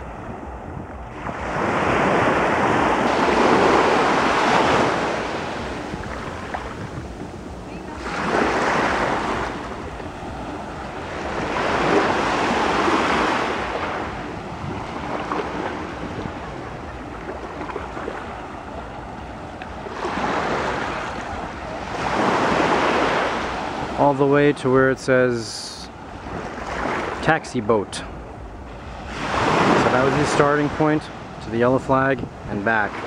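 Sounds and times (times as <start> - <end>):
small waves breaking on beach: 0.0 - 33.0
wind rumbling on microphone: 0.0 - 33.0.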